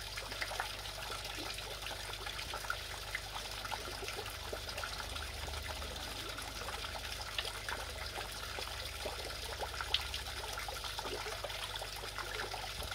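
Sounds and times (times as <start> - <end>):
fountain water splashing: 0.0 - 12.9
low steady hum: 0.0 - 12.9.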